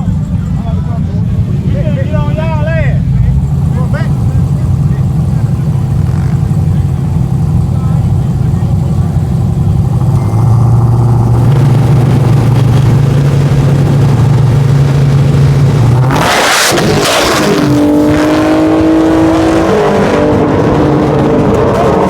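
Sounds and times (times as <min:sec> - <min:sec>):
loud rush of noise: 0:00.0 - 0:22.0
vehicle engine revving: 0:00.0 - 0:22.0.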